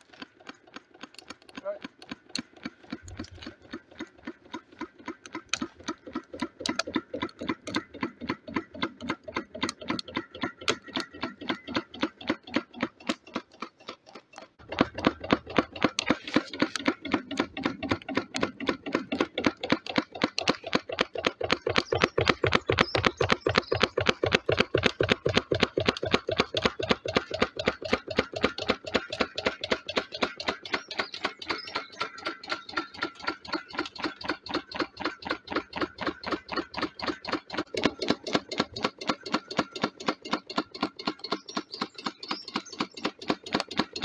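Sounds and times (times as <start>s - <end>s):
stirling engine clonking: 0.0s - 44.0s.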